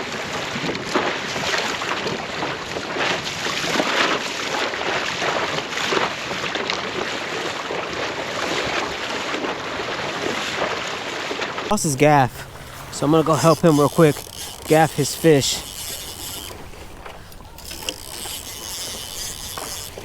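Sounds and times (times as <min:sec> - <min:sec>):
water splashing against kayak: 0:00.3 - 0:20.0.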